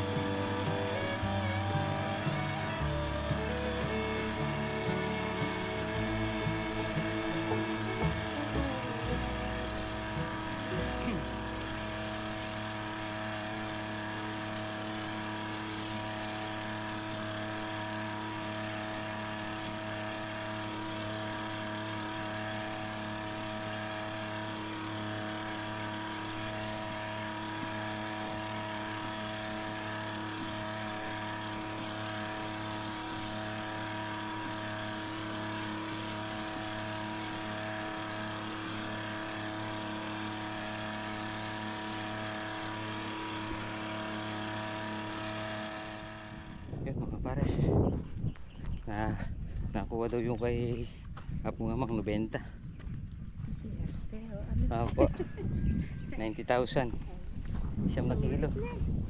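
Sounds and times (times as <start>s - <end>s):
small sprayer engine running: 0.0s - 49.7s, 51.8s - 59.0s.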